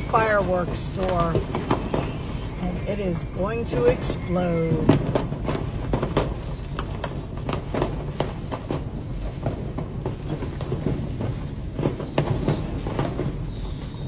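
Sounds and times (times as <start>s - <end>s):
fireworks pops and cracks: 0.0s - 14.0s.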